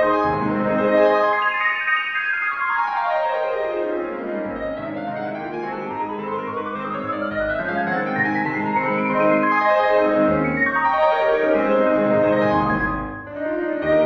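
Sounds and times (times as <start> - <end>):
keyboard music held chords: 0.0 - 14.0.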